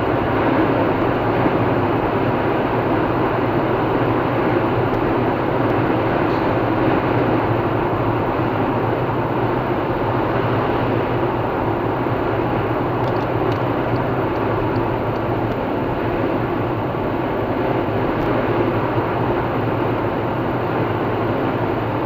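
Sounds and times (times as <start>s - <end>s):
car engine hum: 0.0s - 22.0s
tyre roar on highway: 0.0s - 22.0s.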